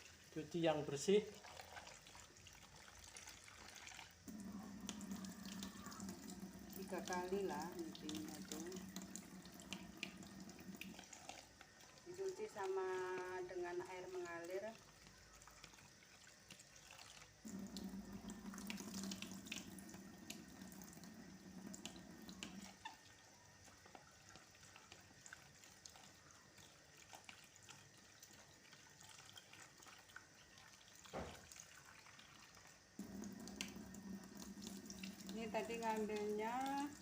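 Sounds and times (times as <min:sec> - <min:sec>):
small water splashes: 0:00.0 - 0:37.0
tap running into basin: 0:00.2 - 0:37.0.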